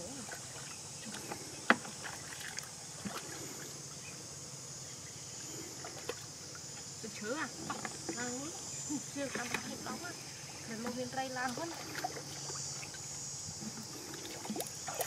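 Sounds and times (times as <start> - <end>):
water sloshing and splashing: 0.0 - 3.8, 5.7 - 13.2, 13.8 - 15.0
high insect drone: 0.0 - 15.0.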